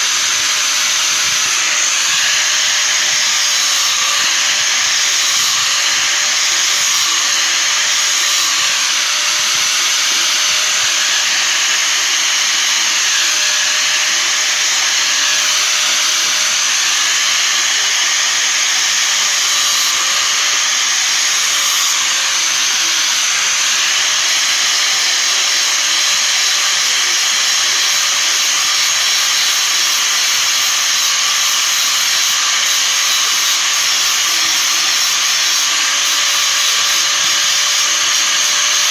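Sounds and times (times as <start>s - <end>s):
grinder wheel grinding metal: 0.0s - 38.9s.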